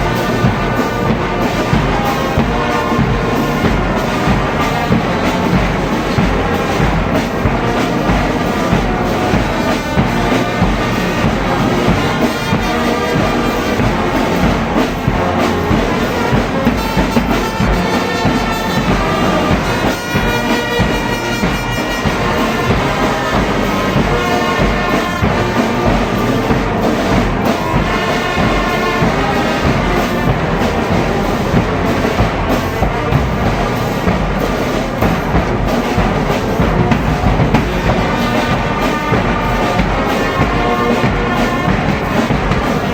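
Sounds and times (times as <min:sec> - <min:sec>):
brass band playing: 0:00.0 - 0:42.9.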